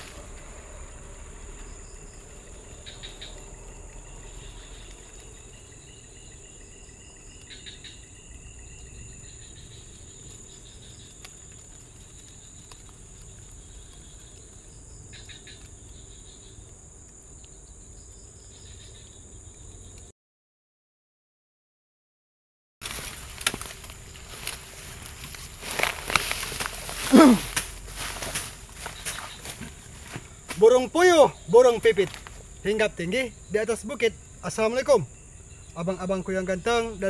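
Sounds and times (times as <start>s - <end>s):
high-pitched insect chorus: 0.0s - 20.1s, 22.8s - 37.0s
rapid insect chirping: 0.0s - 20.1s, 22.8s - 37.0s.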